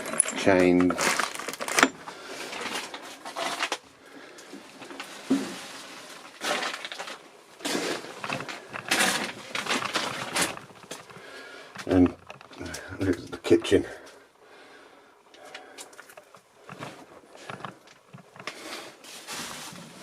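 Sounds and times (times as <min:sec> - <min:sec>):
footsteps crunching over debris: 0:00.6 - 0:14.2, 0:15.4 - 0:20.0.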